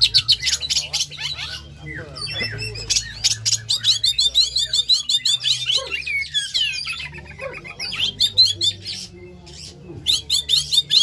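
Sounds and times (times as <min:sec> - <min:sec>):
bird singing whistles and chatter: 0:00.0 - 0:11.0.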